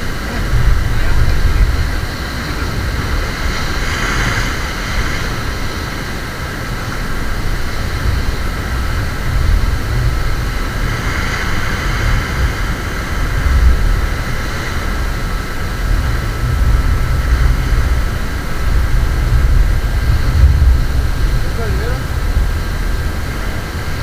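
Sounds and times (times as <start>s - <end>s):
ocean surf washing on beach: 0.0s - 24.0s
wind rumble on microphone: 0.0s - 24.0s.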